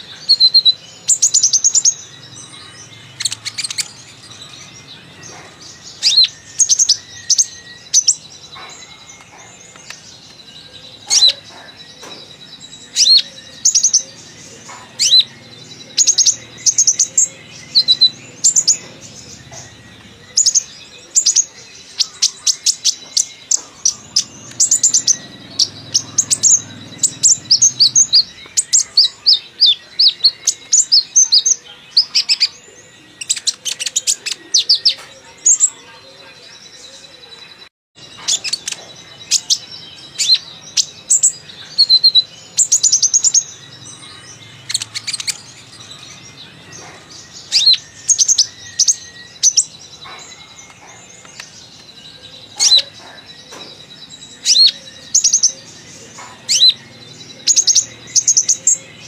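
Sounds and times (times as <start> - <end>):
bird chirping and twittering: 0.0 - 59.0.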